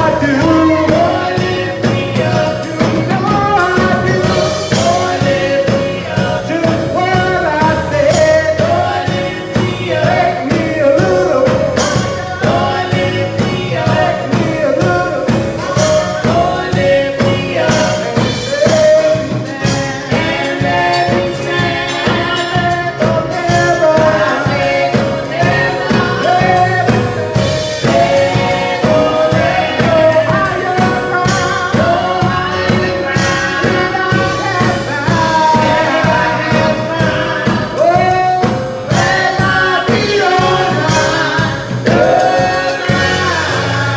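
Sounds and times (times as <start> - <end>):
band accompaniment: 0.0 - 43.9
choir singing gospel song: 0.0 - 43.9
steady drum beat: 0.0 - 43.9.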